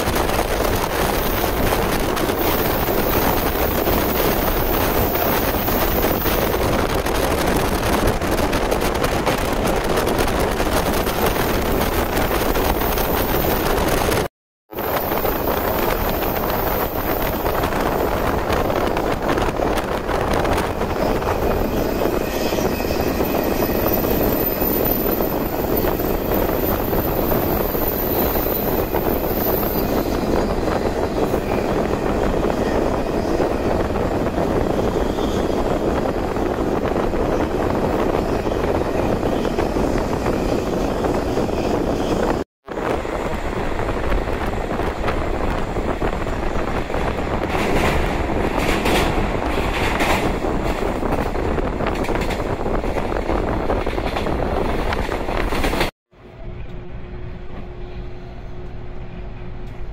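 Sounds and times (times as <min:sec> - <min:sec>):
electric train running at speed: 0:00.0 - 0:59.9.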